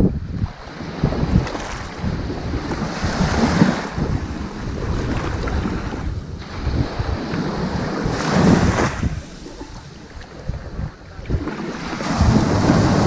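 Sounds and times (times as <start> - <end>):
waves washing onto sandy beach: 0.2 - 13.0.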